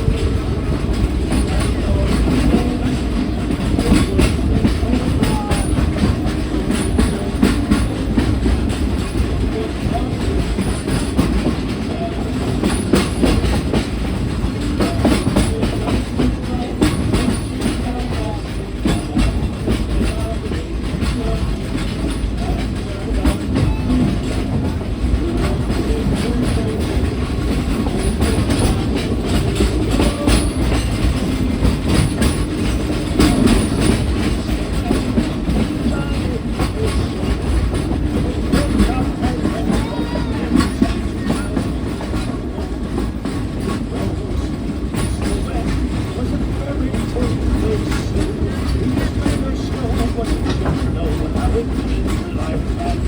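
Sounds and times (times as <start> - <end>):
train cars rumbling: 0.0 - 53.0
wheels clicking over rail joints: 0.0 - 53.0.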